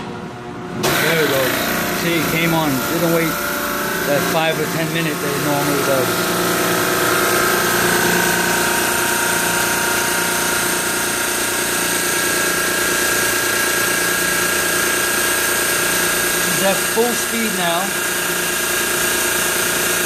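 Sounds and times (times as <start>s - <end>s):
high steady whine: 0.0s - 20.0s
refrigeration compressor humming: 0.0s - 20.0s.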